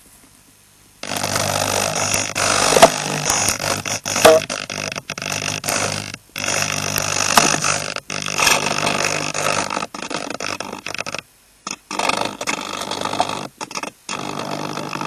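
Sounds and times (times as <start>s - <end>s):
video downlink hiss and buzz: 0.0s - 15.0s.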